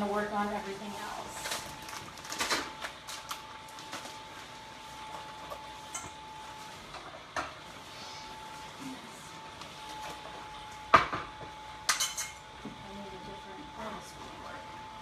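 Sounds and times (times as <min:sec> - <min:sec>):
blower fan humming: 0:00.0 - 0:15.0.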